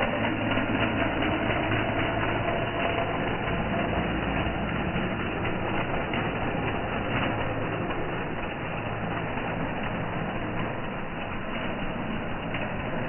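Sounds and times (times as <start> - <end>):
constant low hum: 0.0 - 13.0
train rumbling: 0.0 - 13.0.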